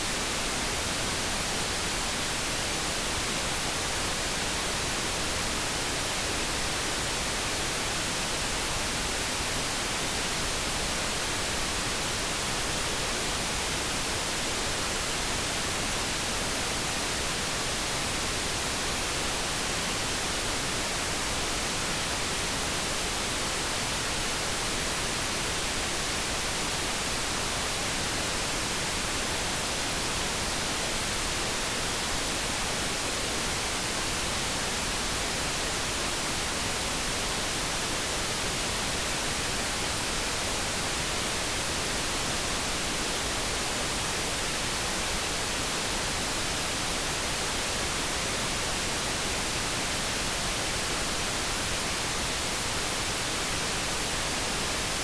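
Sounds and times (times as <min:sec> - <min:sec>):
synthesized brown noise hiss: 0:00.0 - 0:55.0.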